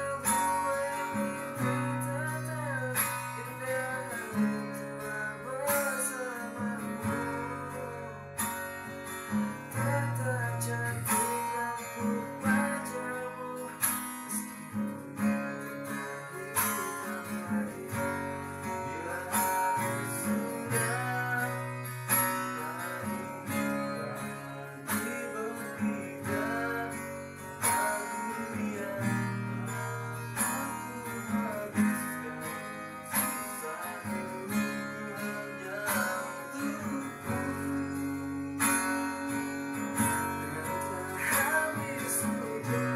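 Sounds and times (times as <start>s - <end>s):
acoustic guitar playing: 0.0s - 42.9s.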